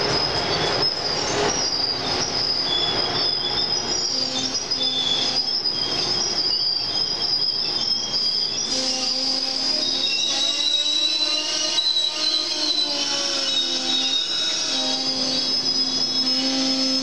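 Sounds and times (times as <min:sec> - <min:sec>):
train wheels and brakes squealing: 0:00.0 - 0:17.0.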